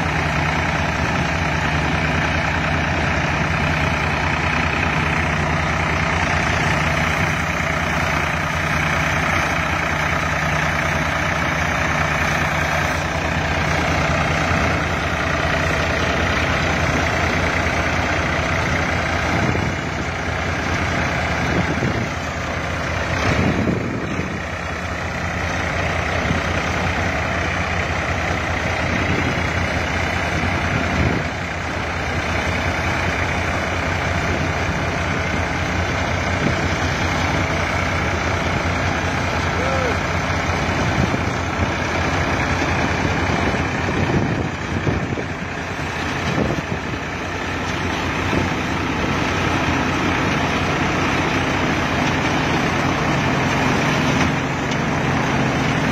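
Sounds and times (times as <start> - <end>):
mechanical noise of digger: 0.0 - 55.9
tractor diesel engine running: 0.0 - 55.9.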